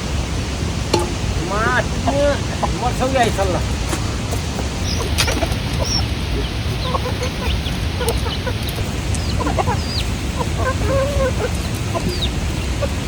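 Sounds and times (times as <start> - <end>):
steady rushing noise: 0.0 - 13.0
chickens clucking: 0.8 - 13.0.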